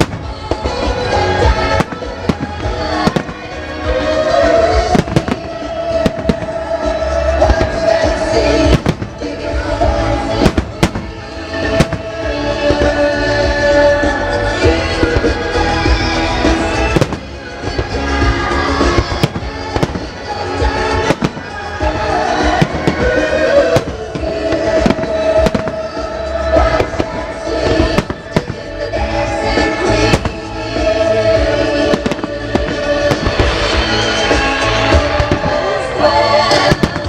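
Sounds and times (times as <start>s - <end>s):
fireworks bangs and crackles: 0.0s - 37.0s
show tune music over loudspeakers: 0.0s - 37.0s.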